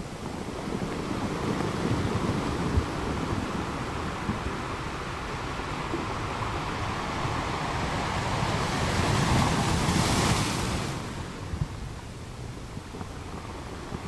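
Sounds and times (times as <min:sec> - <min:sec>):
ocean wave washing in: 0:00.1 - 0:11.9.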